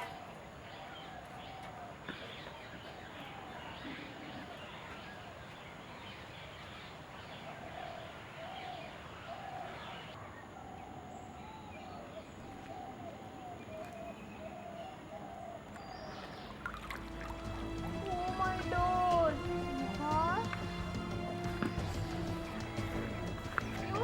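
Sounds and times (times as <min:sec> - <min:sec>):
birds chirping and calling: 0:00.0 - 0:24.0
short repeated low bird calls: 0:00.0 - 0:24.0.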